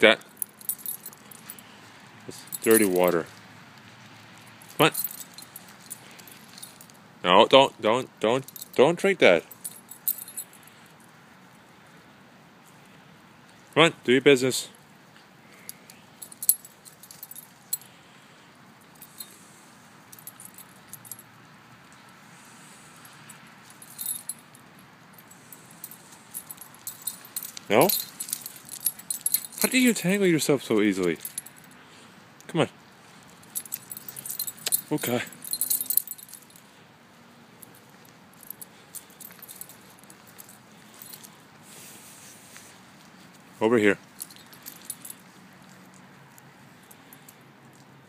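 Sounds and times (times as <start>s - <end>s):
dog tags and leash clasp jingling: 0.0s - 12.0s, 15.5s - 18.0s, 18.8s - 22.2s, 23.0s - 31.8s, 32.4s - 36.7s, 37.4s - 41.8s, 42.7s - 48.0s
soft outdoor hiss: 0.0s - 48.0s.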